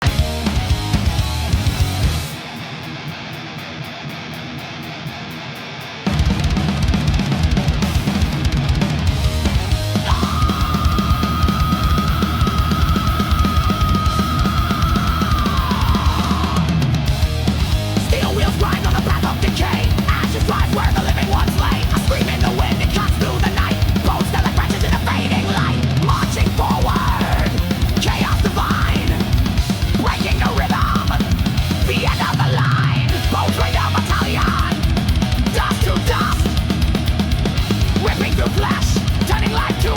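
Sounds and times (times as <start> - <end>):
fast dense drumming: 0.0 - 3.0, 6.0 - 39.9
distorted guitars: 0.0 - 39.9
heavy metal music: 0.0 - 39.9.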